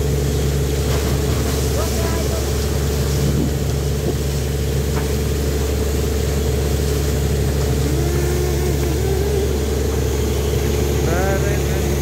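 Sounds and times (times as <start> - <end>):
drilling rig engine drone: 0.0 - 12.0.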